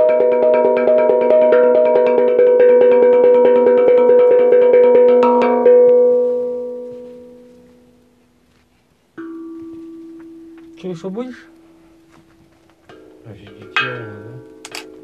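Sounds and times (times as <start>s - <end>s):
tuned percussion played by hand: 0.0s - 8.3s, 9.2s - 15.0s.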